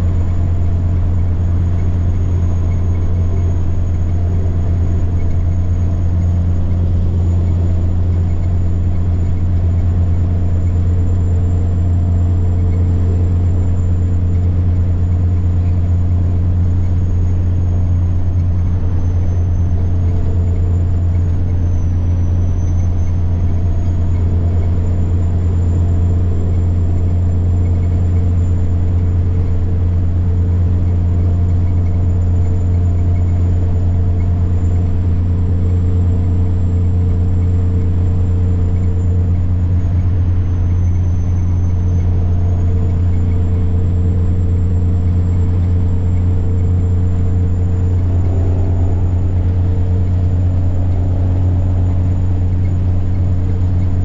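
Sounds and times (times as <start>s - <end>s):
diesel truck engine drone: 0.0s - 54.0s
turbocharger whine: 0.0s - 54.0s.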